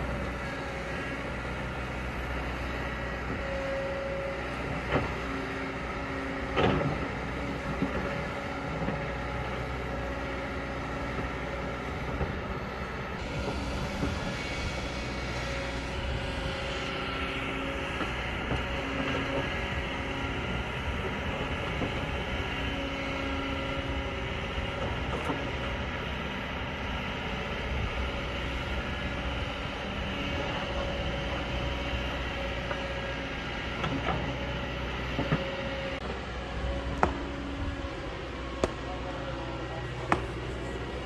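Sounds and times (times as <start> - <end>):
excavator engine and hydraulics: 0.0 - 41.0.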